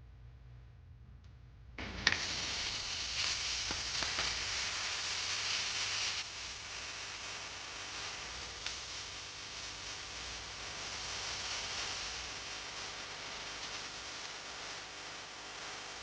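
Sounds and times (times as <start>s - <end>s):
food sizzling in hot pan: 1.8s - 15.9s.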